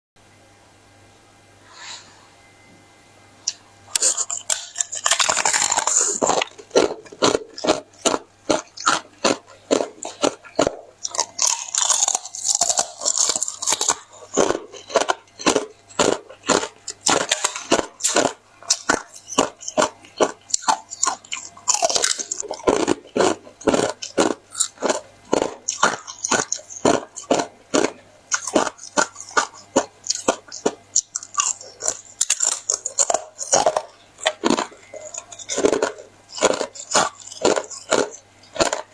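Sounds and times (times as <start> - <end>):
ice crunching between teeth: 3.9 - 38.9.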